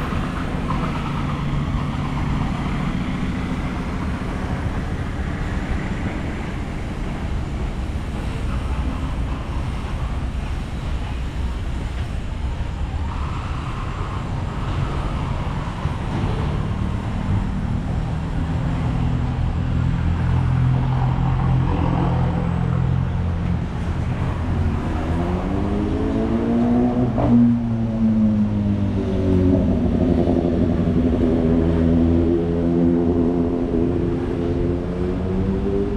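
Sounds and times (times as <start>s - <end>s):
street noise: 0.0s - 35.9s
vehicle engines running: 0.0s - 35.9s.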